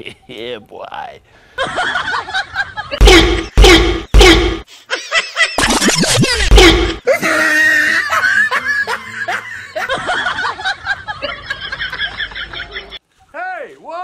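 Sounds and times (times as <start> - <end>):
people laughing and snickering: 1.6 - 13.0.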